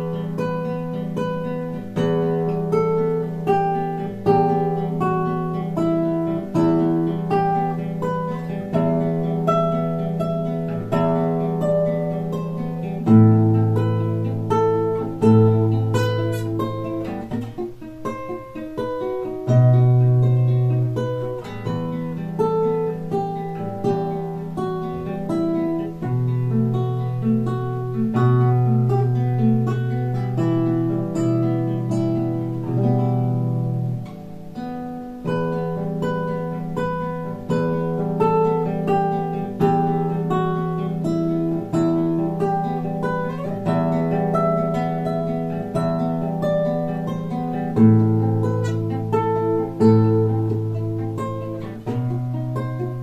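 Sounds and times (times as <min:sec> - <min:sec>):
fingerstyle classical guitar: 0:00.0 - 0:53.0.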